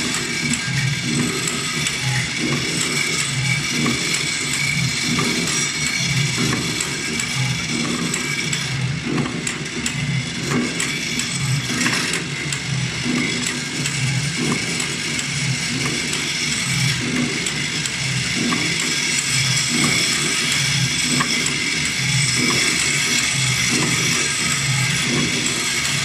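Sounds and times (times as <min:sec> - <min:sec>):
thread rolling machine whining: 0:00.0 - 0:26.0.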